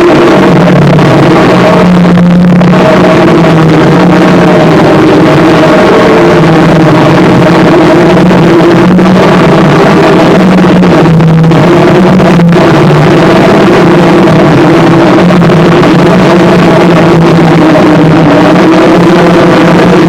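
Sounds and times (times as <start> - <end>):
distorted wall of noise: 0.0 - 20.0
low droning hum: 0.0 - 20.0.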